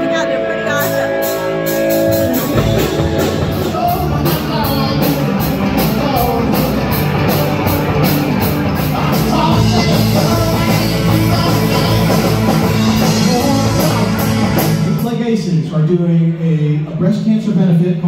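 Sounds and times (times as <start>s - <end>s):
live rock band playing: 0.0s - 15.7s.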